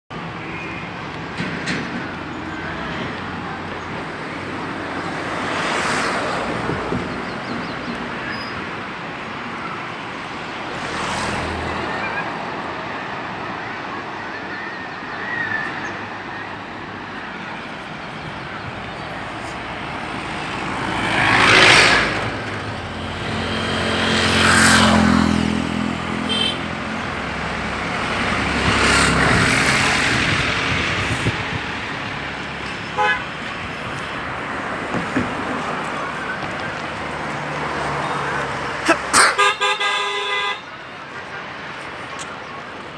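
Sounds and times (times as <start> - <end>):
vehicles passing: 0.1 - 42.9.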